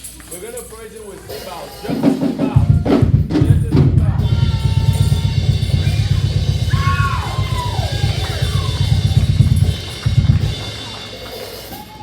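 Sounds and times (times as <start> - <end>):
live gospel band: 0.0 - 12.0.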